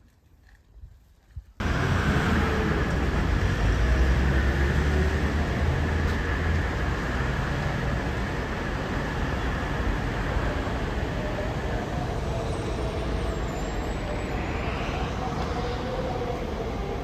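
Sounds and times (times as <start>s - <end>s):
vehicle rumble: 1.6s - 17.0s.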